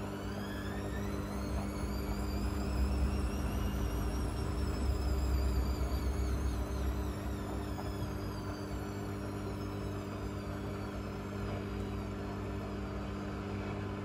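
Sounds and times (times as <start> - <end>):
steady hum: 0.0 - 14.0
washing machine motor whining: 0.0 - 14.0.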